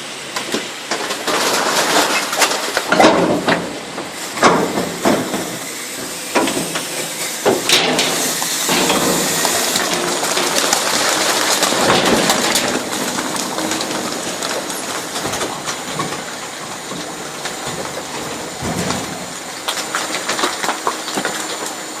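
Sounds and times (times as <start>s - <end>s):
garbage truck compactor crushing: 0.0s - 22.0s.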